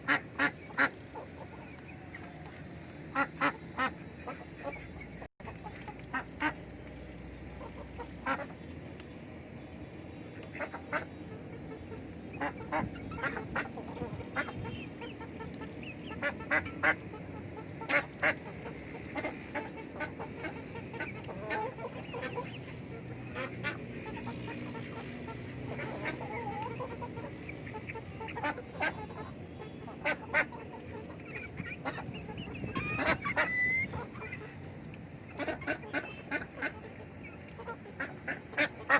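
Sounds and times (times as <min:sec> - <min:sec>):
chickens clucking: 0:00.0 - 0:08.7, 0:10.3 - 0:38.9.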